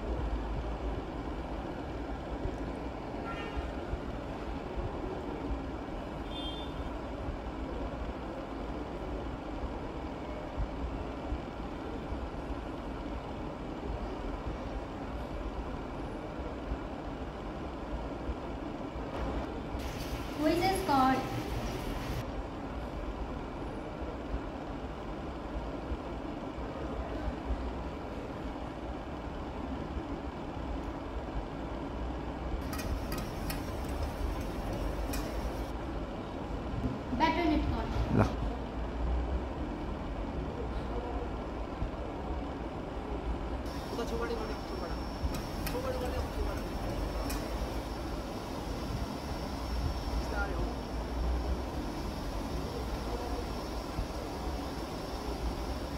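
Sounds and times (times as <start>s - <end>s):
low rumbling background noise: 0.0s - 55.9s.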